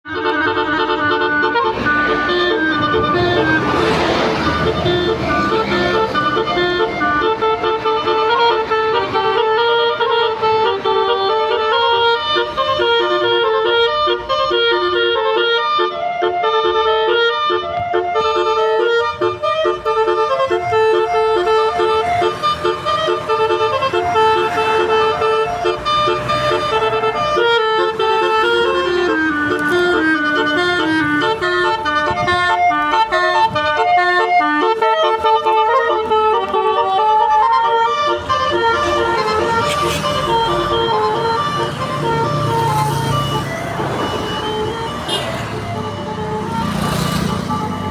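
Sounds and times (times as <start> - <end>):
multi-tone horn playing melody: 0.0 - 47.9.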